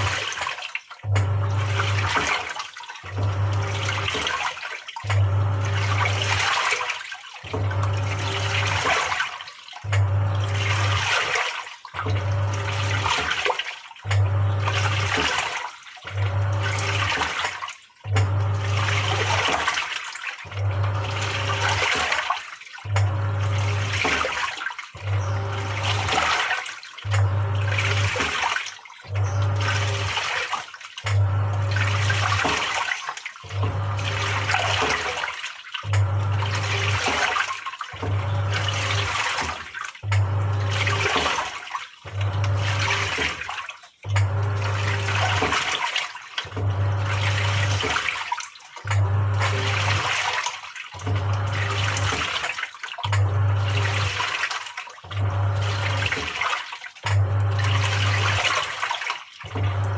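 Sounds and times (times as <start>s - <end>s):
washing machine motor humming: 0.0s - 59.9s
water churning and sloshing: 0.0s - 59.9s.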